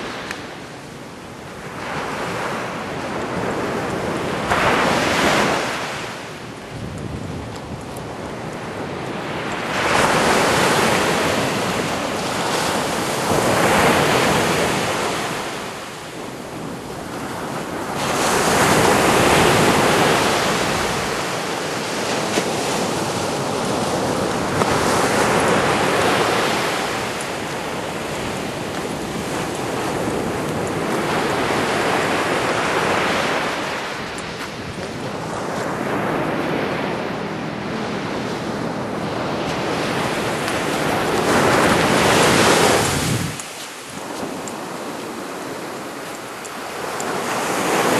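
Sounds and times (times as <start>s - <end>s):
small waves breaking on beach: 0.0s - 47.9s.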